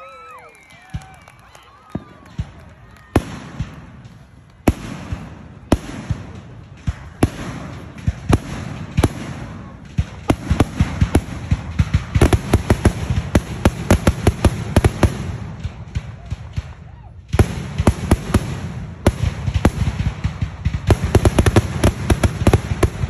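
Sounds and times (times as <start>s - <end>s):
fireworks bangs: 0.0s - 23.0s
fireworks popping and crackling: 0.0s - 23.0s.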